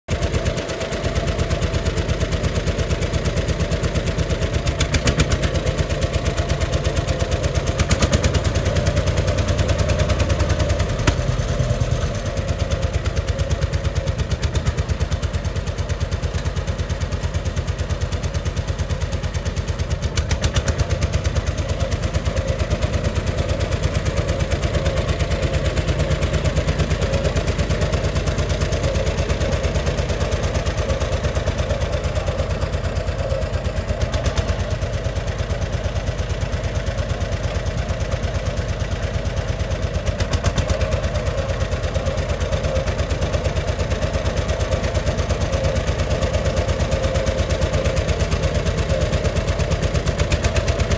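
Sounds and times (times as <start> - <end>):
tractor engine popping: 0.1 - 50.9.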